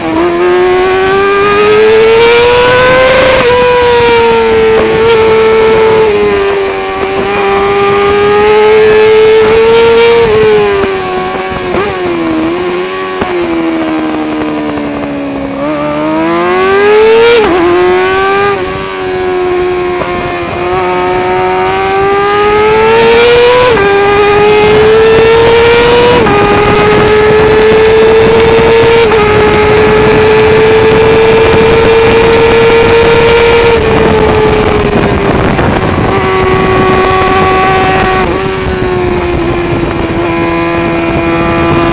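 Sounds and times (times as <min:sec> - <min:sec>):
motorcycle engine howling at high revs: 0:00.0 - 0:41.9.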